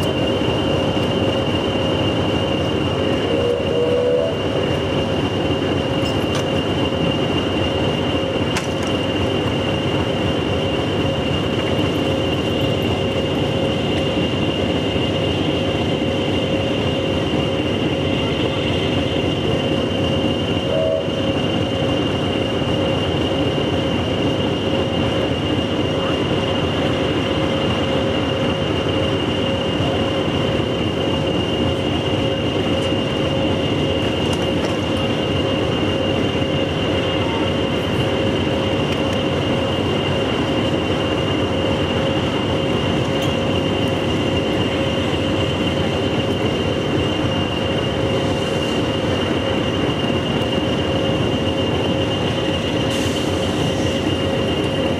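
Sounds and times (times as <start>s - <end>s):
high whine: 0.0s - 54.9s
locomotive rumble: 0.0s - 54.9s.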